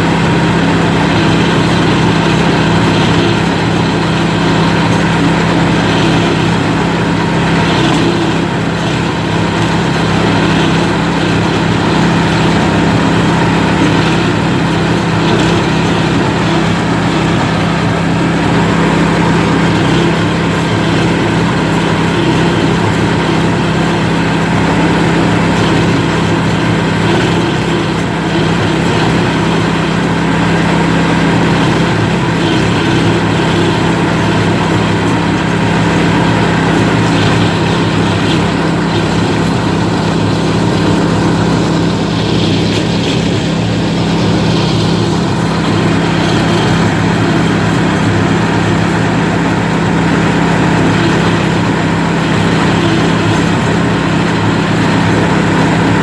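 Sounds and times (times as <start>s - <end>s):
husk peeling machine droning: 0.0s - 56.0s.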